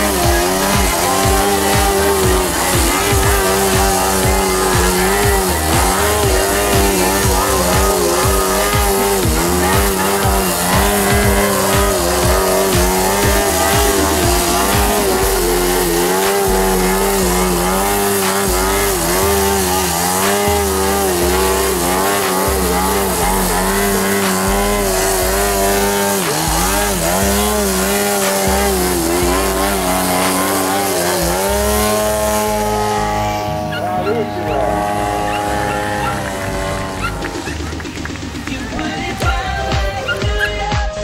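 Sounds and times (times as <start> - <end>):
model plane engine running: 0.0 - 40.6
music with stepping bass line: 0.0 - 41.0.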